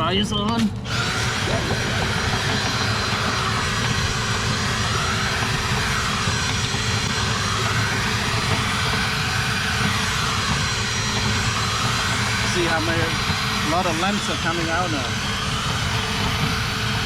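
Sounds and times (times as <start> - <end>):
dryer blower rushing air: 0.7 - 17.0.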